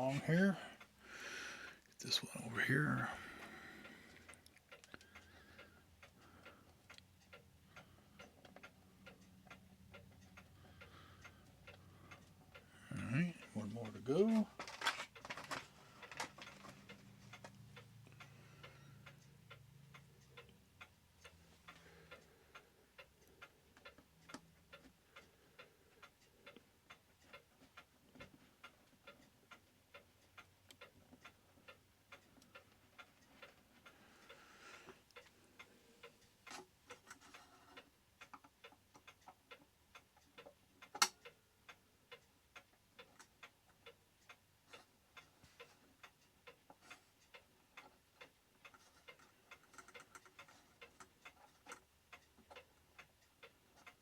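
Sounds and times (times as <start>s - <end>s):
mechanical clock ticking: 0.0s - 54.0s.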